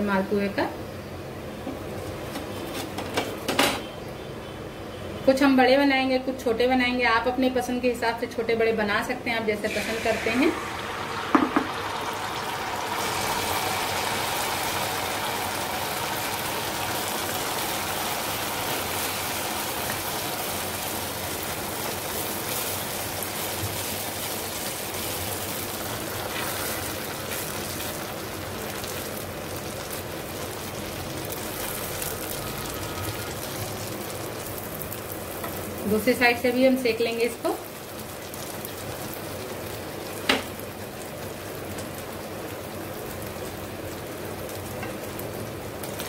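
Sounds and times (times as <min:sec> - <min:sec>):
batter deep-frying in hot fat: 0:06.2 - 0:46.0.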